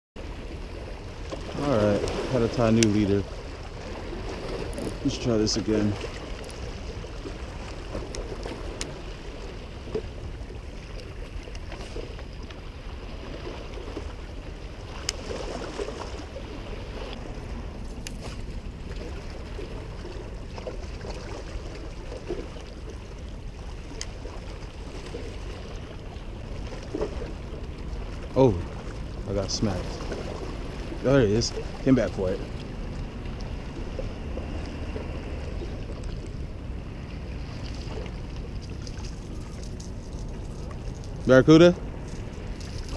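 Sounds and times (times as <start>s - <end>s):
small waves lapping on rocks: 0.2s - 42.9s
wind rumble on microphone: 0.2s - 42.9s.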